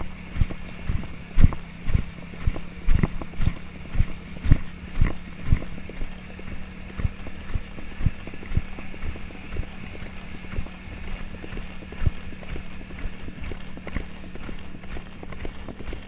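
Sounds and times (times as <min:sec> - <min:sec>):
horse hoofbeats on dirt cantering: 0:00.0 - 0:16.0.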